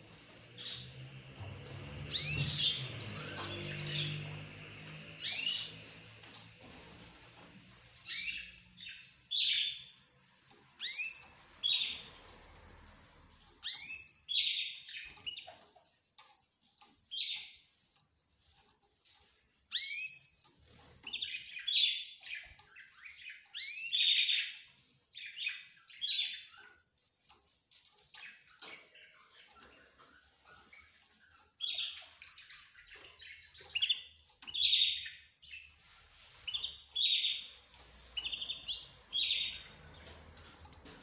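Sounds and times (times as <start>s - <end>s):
cage birds chirping: 0.0s - 41.0s.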